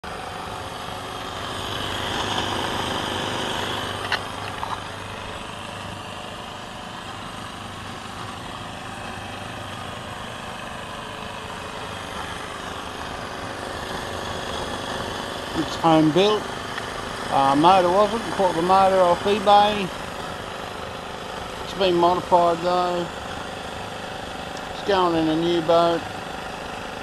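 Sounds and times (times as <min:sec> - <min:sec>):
steam engine hiss and hum: 0:00.0 - 0:27.0.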